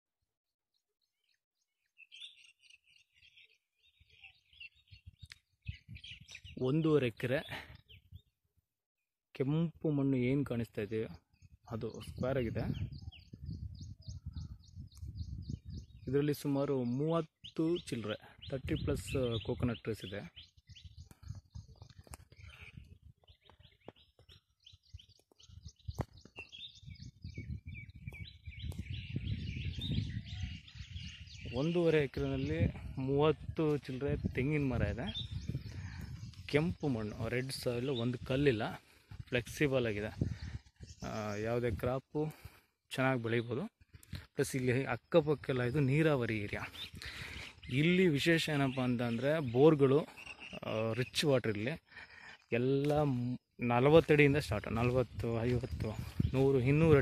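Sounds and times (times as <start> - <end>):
faint birds chirping: 0.8 - 8.6, 9.3 - 57.0.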